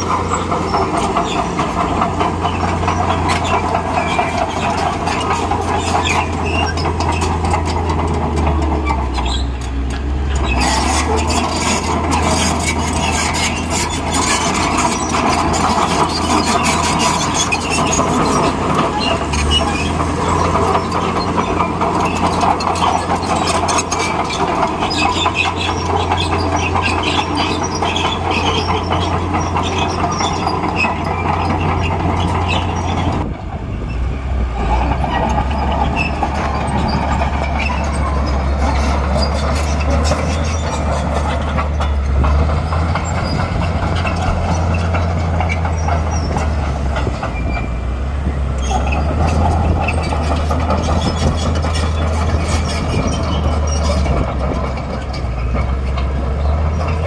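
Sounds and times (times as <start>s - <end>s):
diesel engine running: 0.0s - 57.0s
steel tracks clanking: 0.0s - 57.0s.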